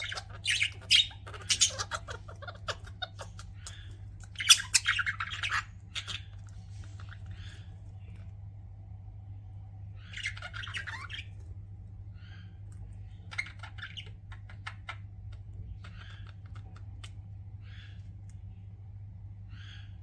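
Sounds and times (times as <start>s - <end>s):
budgerigars chirping and chattering: 0.0s - 8.4s, 9.2s - 20.0s
steady low hum: 0.0s - 20.0s.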